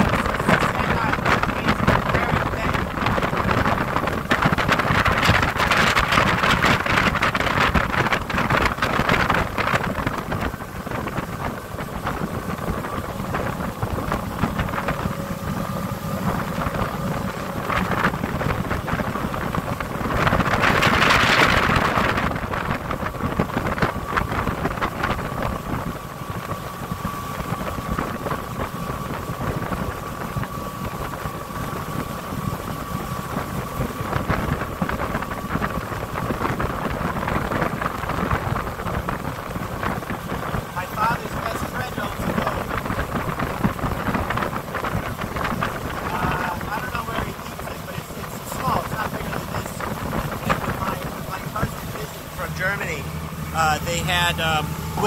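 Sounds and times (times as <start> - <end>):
motorboat engine droning: 0.0 - 55.0
water rushing past hull: 0.0 - 55.0
wind buffeting microphone: 0.0 - 55.0.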